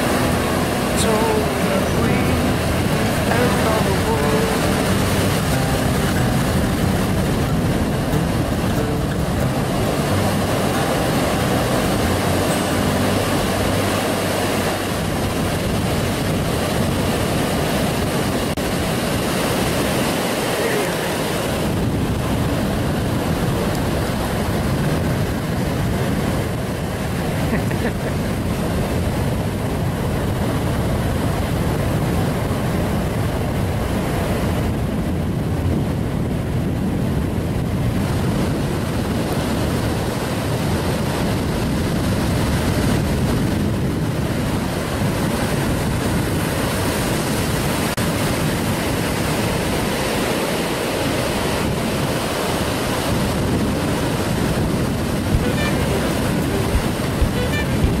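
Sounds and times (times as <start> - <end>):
small waves breaking: 0.0 - 58.0
wind rumbling on microphone: 0.0 - 58.0.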